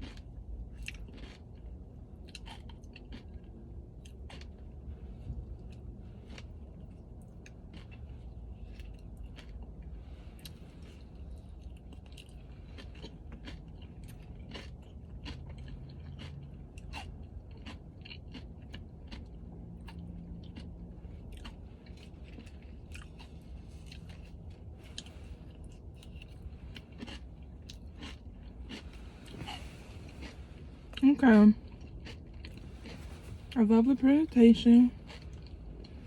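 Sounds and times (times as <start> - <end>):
close chewing: 0.0 - 36.0.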